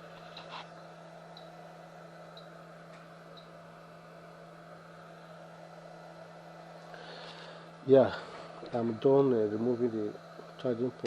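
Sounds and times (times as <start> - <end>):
faint electrical hum with hiss: 0.0 - 11.0.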